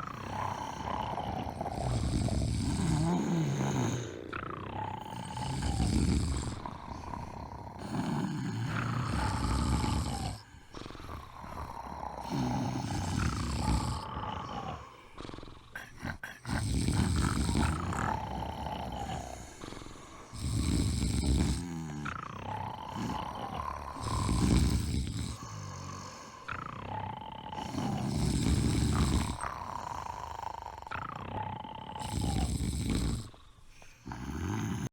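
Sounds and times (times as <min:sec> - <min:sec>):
person snoring: 0:00.0 - 0:34.9.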